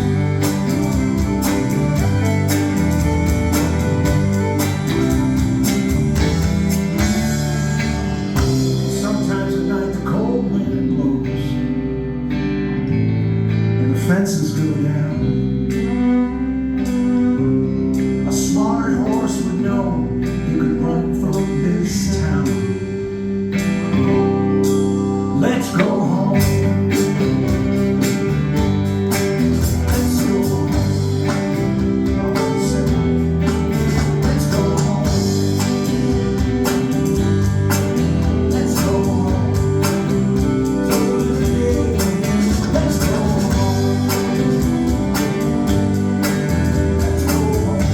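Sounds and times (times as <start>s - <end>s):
live band with guitar: 0.0s - 47.9s.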